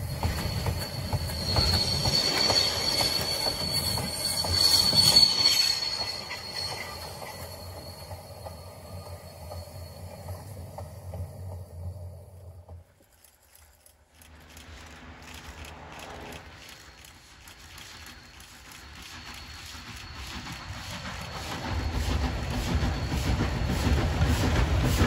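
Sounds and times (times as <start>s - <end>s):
train wheel squeal: 0.0s - 13.8s, 14.6s - 25.0s.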